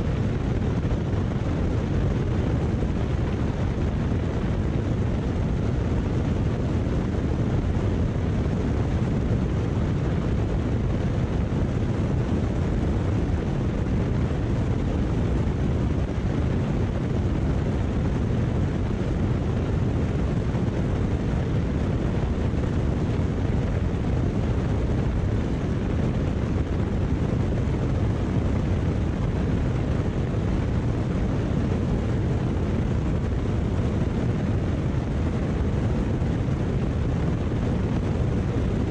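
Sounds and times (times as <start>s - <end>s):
airplane engine and propeller droning: 0.0s - 38.9s
wind rushing over camera: 0.0s - 38.9s.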